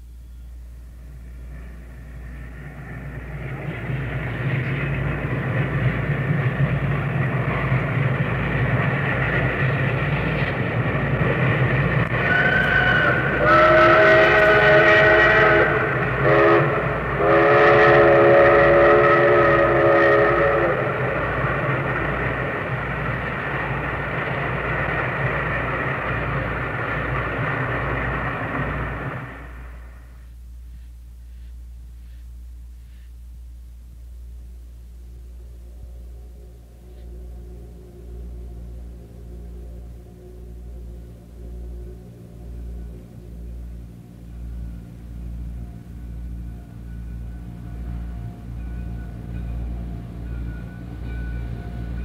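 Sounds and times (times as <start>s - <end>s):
steam locomotive running: 0.0s - 52.0s.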